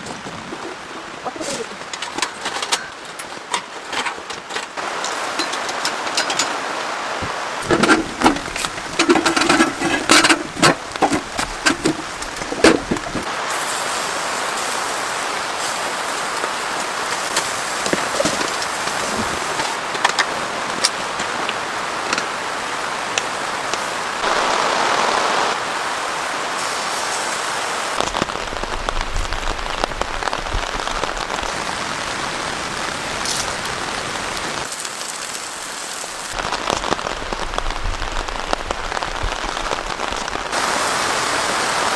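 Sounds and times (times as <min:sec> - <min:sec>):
heavy rain hissing: 0:00.0 - 0:41.9.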